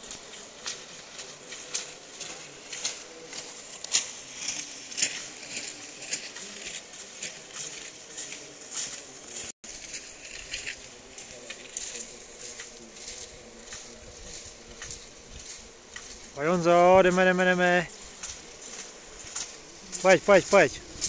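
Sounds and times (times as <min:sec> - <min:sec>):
skis scraping on snow: 0:00.0 - 0:21.0.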